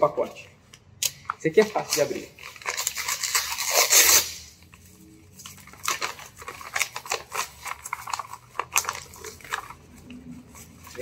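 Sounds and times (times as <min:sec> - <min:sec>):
paper package tearing: 0:01.5 - 0:04.6, 0:05.3 - 0:11.0.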